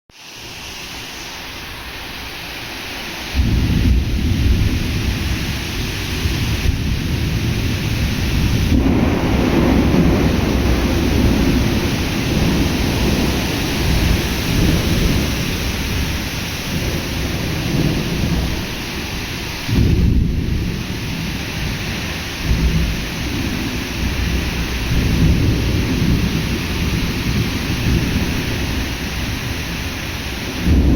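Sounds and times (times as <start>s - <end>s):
heavy rain pouring: 0.1s - 30.9s
thunder rumbling: 3.2s - 30.9s.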